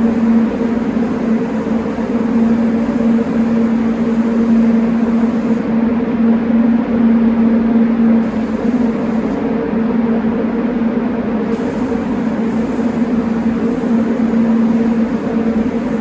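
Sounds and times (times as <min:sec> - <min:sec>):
spray booth motor hum: 0:00.0 - 0:09.8, 0:11.2 - 0:16.0.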